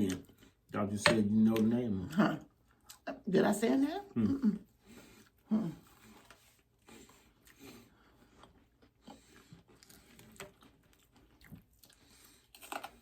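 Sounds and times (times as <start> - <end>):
faint chewing of crisp food: 0.0 - 3.2, 4.0 - 13.0.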